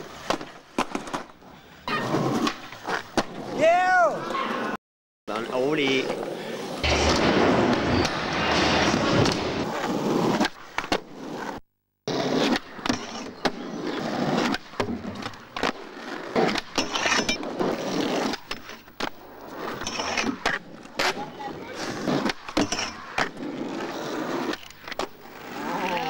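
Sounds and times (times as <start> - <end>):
skateboard wheels rolling on asphalt: 0.0 - 26.0
skateboard wheels rolling on plywood: 0.0 - 26.0.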